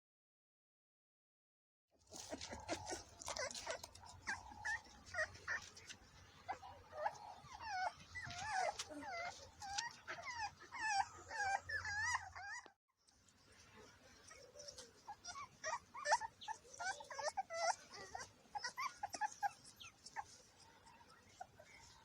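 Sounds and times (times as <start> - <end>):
puppies whining and yipping: 2.1 - 12.8, 14.2 - 22.0.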